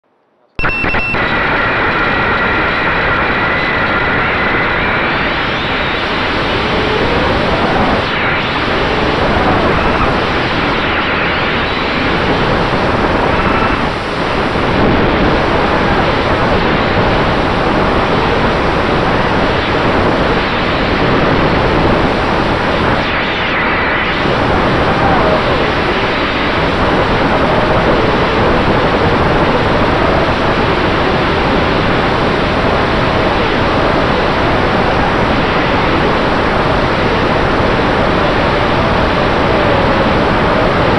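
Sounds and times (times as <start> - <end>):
wind and prop wash rushing: 1.7 - 40.9.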